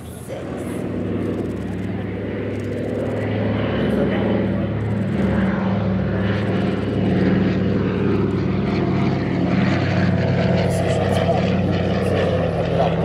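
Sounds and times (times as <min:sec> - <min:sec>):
propeller plane droning past: 0:00.0 - 0:13.0.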